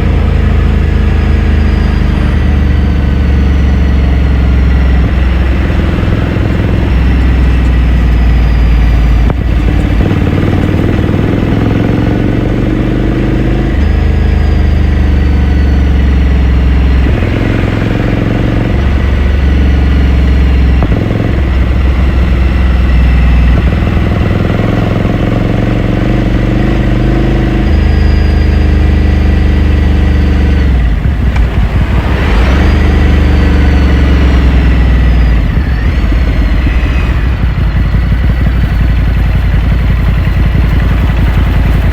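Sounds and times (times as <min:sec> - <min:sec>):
motorcycle engine exhaust while riding: 0:00.0 - 0:41.9.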